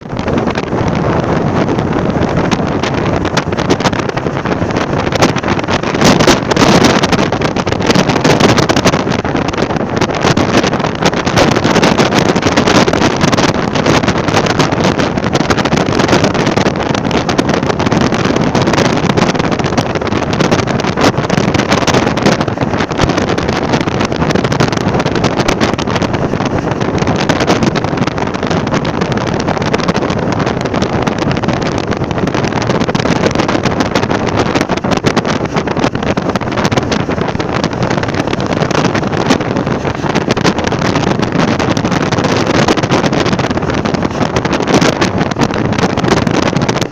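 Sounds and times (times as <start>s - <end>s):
strong wind blowing: 0.0s - 46.9s.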